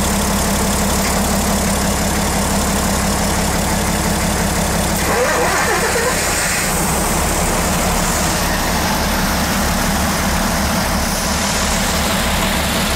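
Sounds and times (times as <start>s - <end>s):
diesel engines droning: 0.0s - 12.9s.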